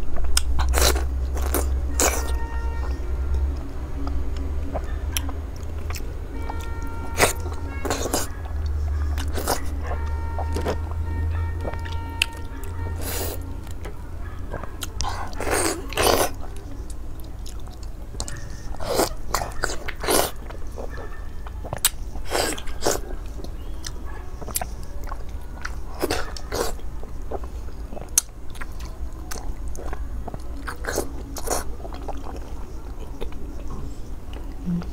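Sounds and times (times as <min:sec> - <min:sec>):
person chewing and biting: 0:00.0 - 0:02.5, 0:03.3 - 0:11.0, 0:11.6 - 0:21.0, 0:21.6 - 0:33.7
steady low hum: 0:00.0 - 0:34.9.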